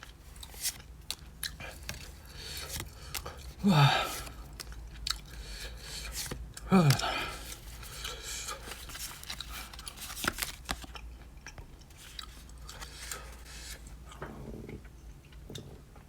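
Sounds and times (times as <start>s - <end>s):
person chewing jerky: 0.0s - 15.7s.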